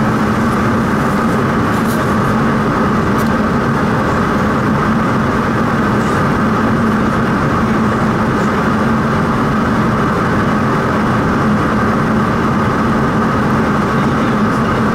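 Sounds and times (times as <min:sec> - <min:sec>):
turboprop engine drone and whine: 0:00.0 - 0:14.9.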